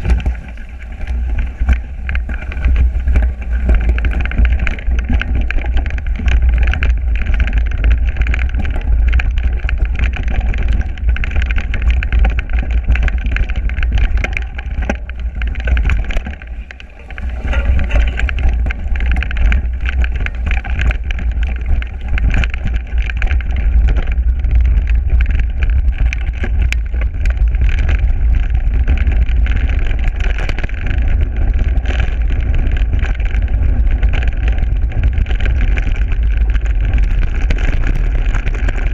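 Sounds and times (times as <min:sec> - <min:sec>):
bike rattling over dirt trail: 0:00.0 - 0:38.9
wind rumble on microphone: 0:00.0 - 0:38.9.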